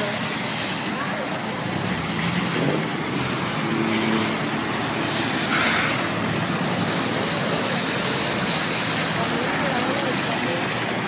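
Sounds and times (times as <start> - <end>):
low engine hum: 0.0 - 11.0
rush of water: 0.0 - 11.0
tyres swishing through water: 0.0 - 11.0.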